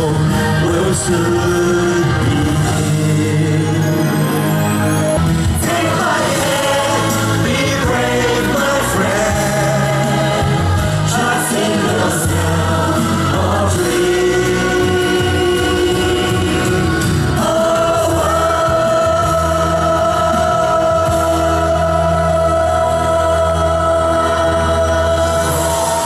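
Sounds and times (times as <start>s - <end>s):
backing music track with bass: 0.0s - 26.0s
group of voices singing: 0.0s - 26.0s.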